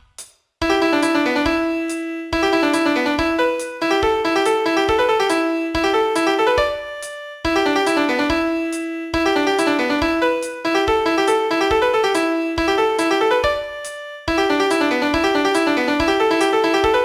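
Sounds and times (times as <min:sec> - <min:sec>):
piano playing a fast melody: 0:00.6 - 0:17.0.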